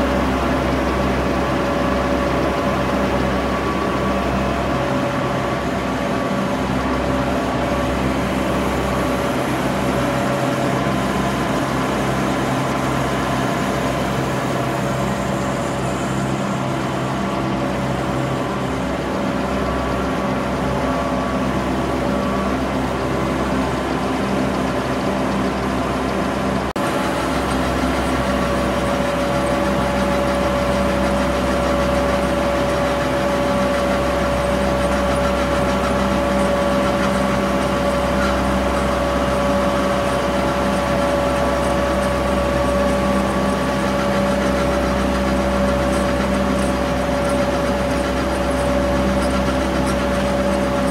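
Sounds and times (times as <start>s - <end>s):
printing press mechanical drone: 0.0s - 50.9s.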